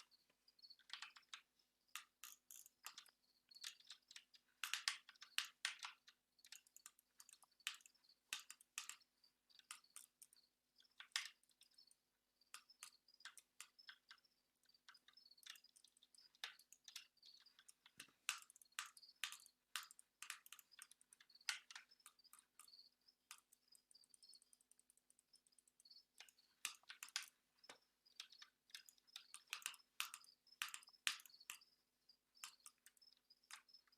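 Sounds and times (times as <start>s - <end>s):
keyboard and mouse clicking: 0.0s - 33.9s.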